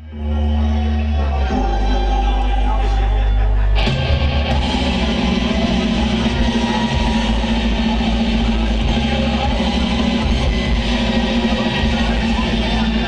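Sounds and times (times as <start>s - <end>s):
heavy metal band playing riff: 0.1s - 13.0s.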